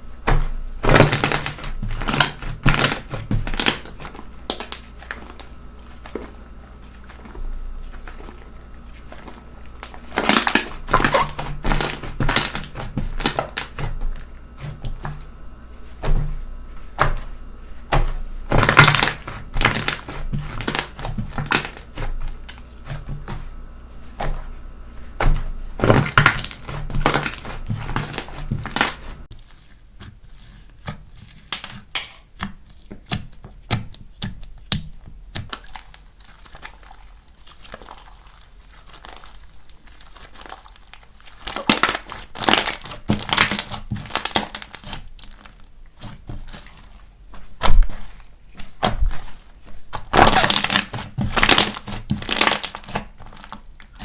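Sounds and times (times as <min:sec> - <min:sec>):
slime crackling and popping: 0:00.2 - 0:54.0.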